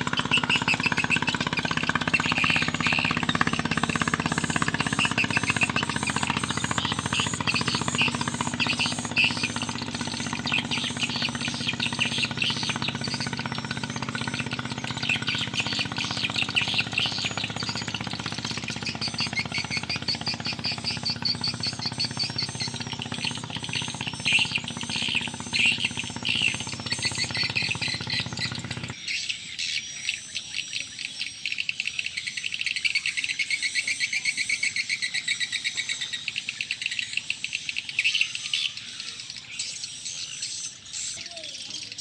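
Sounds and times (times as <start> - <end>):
birds chirping: 0.0 - 42.0
pulsing insect calls: 0.0 - 42.0.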